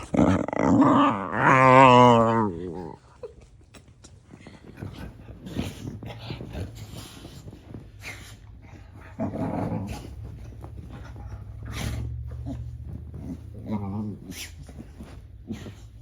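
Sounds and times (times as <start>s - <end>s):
dog growling: 0.0s - 3.3s, 4.7s - 16.0s.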